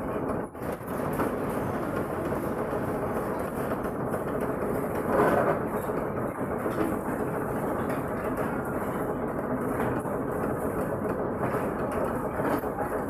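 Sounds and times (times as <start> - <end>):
machine running noise: 0.0 - 13.0.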